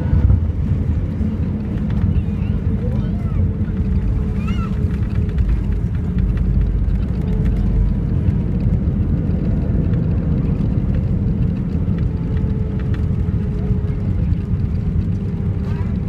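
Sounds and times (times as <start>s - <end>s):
aircraft engines and wheels rumbling: 0.0s - 16.0s.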